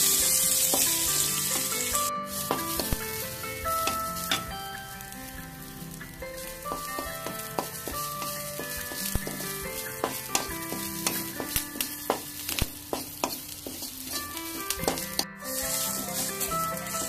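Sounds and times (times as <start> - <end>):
spatula scraping metal pan: 0.0 - 4.6, 6.2 - 17.0
food sizzling in oil: 0.0 - 17.0
soft background music: 0.0 - 17.0.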